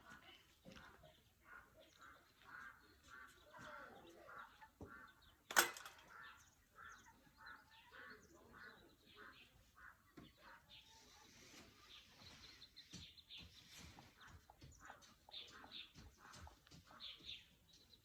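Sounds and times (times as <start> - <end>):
birds calling: 0.6 - 18.0.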